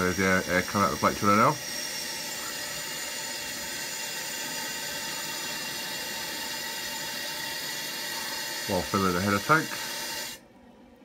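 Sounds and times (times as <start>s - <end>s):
water running with a hiss: 0.0s - 10.4s.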